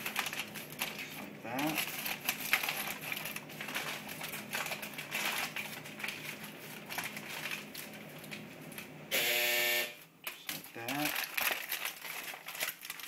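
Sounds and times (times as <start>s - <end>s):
aluminium foil crinkling: 0.0s - 9.0s, 10.2s - 13.0s.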